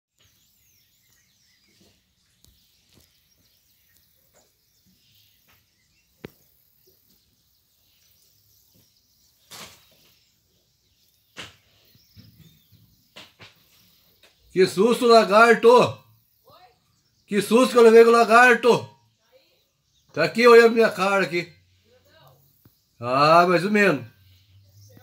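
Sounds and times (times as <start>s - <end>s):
distant bird chirps: 0.1s - 25.0s.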